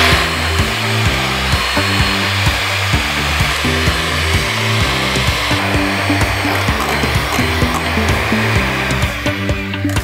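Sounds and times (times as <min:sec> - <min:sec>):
background music with low notes: 0:00.0 - 0:10.0
electric mixer whirring: 0:00.0 - 0:10.0.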